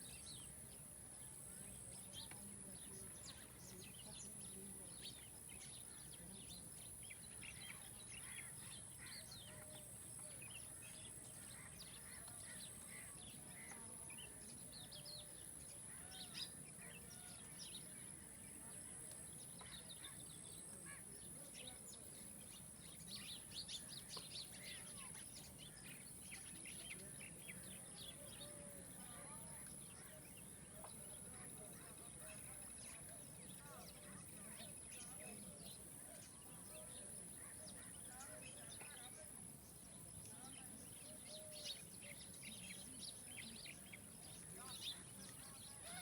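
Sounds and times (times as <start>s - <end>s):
birds chirping faintly: 0.0s - 46.0s.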